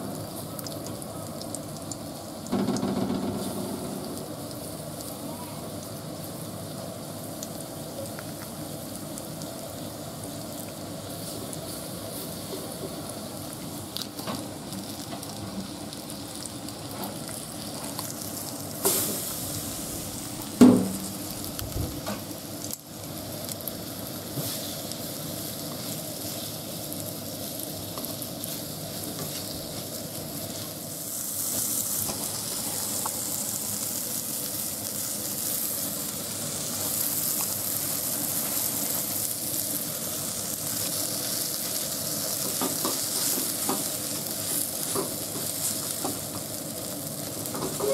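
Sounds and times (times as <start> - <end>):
fish sizzling in oil: 0.0 - 47.9.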